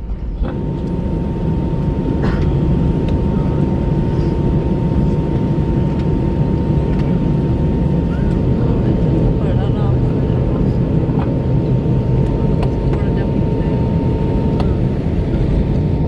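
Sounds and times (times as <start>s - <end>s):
aircraft engines idling rumble: 0.0s - 16.0s.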